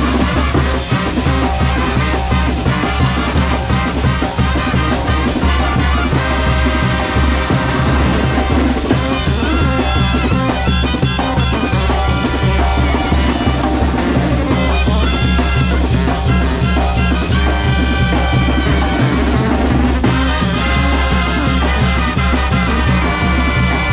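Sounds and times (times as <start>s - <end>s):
brass band with drums: 0.0s - 23.9s.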